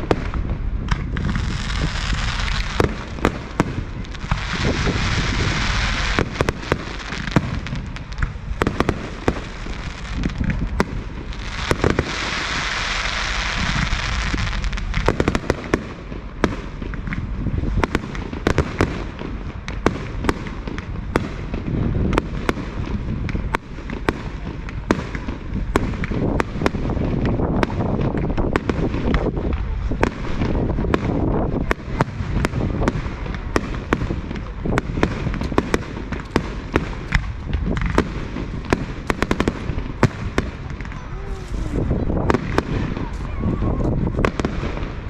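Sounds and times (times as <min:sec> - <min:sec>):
dense crackling hiss: 0:00.0 - 0:45.0
fireworks bursting: 0:00.0 - 0:45.0.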